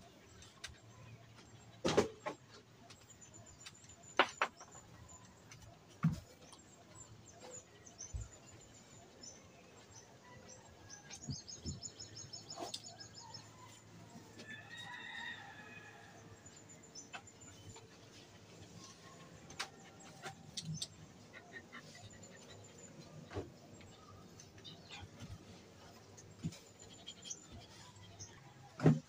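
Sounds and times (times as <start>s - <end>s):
small birds chirping: 0.0s - 15.2s, 16.3s - 28.8s.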